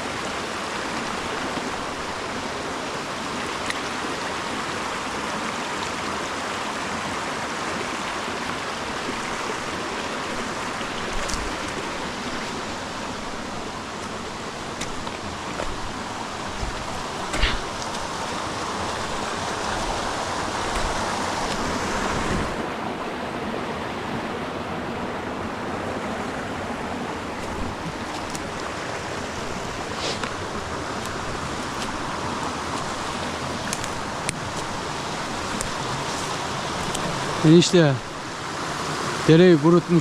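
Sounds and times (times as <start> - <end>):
creek water rushing over rocks: 0.0 - 40.0.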